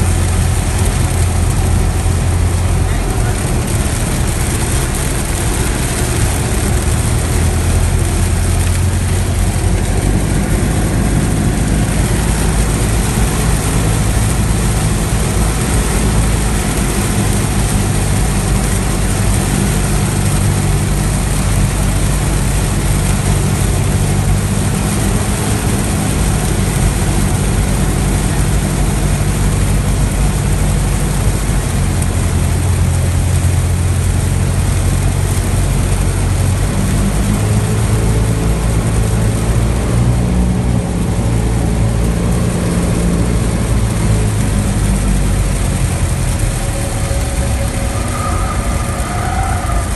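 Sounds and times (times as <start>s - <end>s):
constant hiss: 0.0s - 49.9s
propeller plane engine drone: 0.0s - 49.9s.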